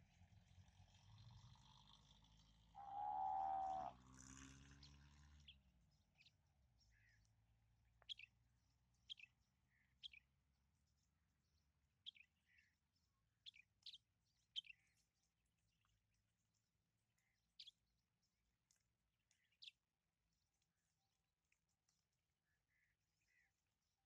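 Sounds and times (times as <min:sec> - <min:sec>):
small birds chirping: 0:01.0 - 0:23.7.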